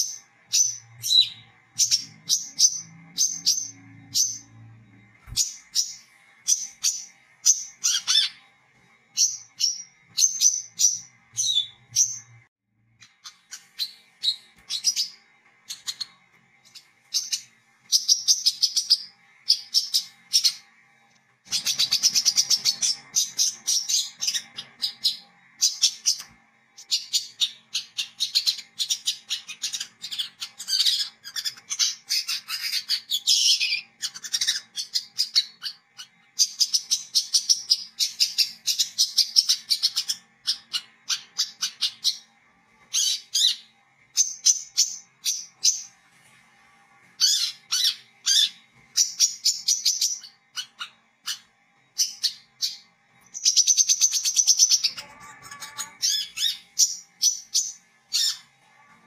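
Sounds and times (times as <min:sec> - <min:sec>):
sunbird chirping and twittering: 0:00.0 - 0:42.3, 0:42.9 - 0:46.0, 0:47.2 - 0:59.0.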